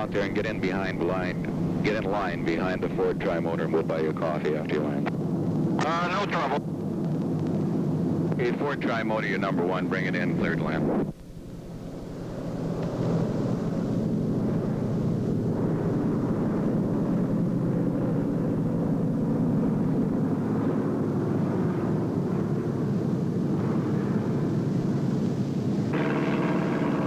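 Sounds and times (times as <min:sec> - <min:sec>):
propeller aircraft droning: 0:00.0 - 0:27.0.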